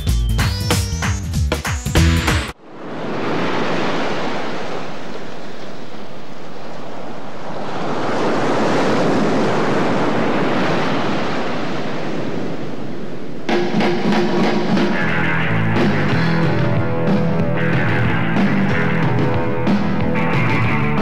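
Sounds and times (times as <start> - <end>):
ocean surf washing: 2.5 - 21.0.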